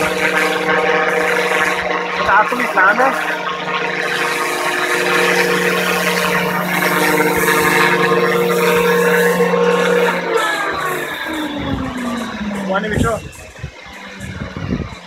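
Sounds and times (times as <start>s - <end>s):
model helicopter whirring hum: 0.0s - 15.0s.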